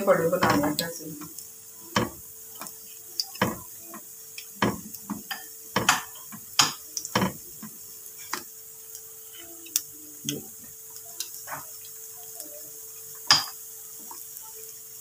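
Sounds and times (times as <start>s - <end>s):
fritters sizzling in hot oil: 0.0s - 15.0s.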